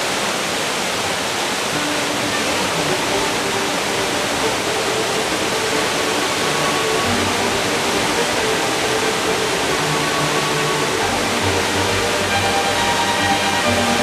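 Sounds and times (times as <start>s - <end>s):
stream water rushing: 0.0s - 14.0s
faint held music notes: 1.4s - 14.0s.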